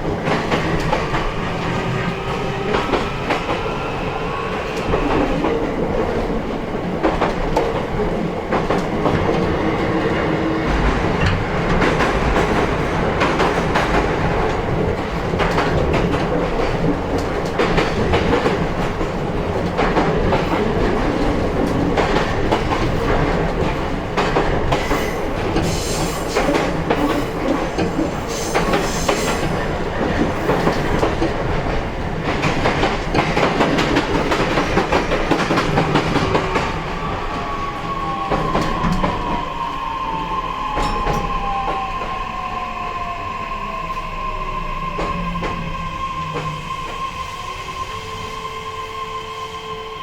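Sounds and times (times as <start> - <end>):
electric train interior rumble: 0.0 - 50.0.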